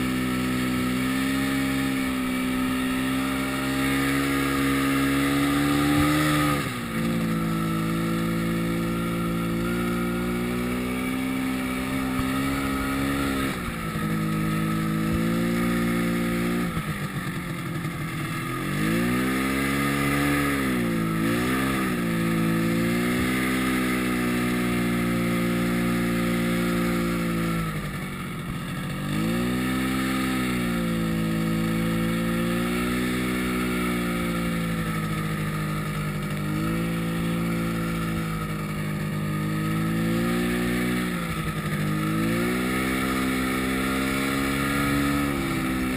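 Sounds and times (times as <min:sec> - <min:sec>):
snowmobile engine revving: 0:00.0 - 0:45.9.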